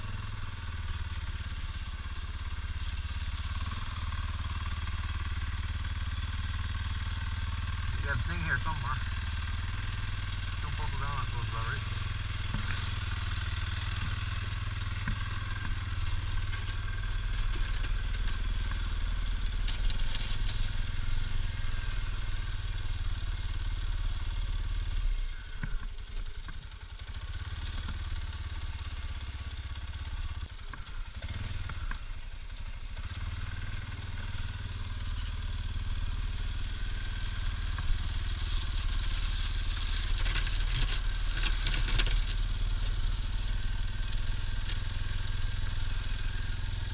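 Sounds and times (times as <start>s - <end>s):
atv engine droning: 0.0s - 46.9s.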